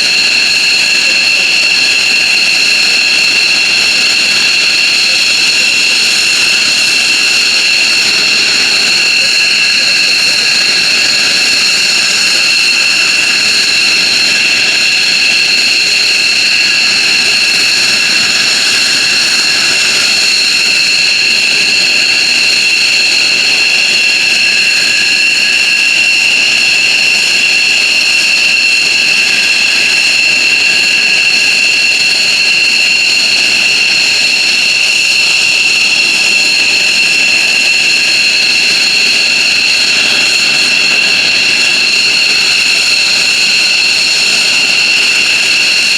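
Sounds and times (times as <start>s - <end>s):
high constant whine: 0.0s - 45.9s
jet engine roar: 0.0s - 45.9s.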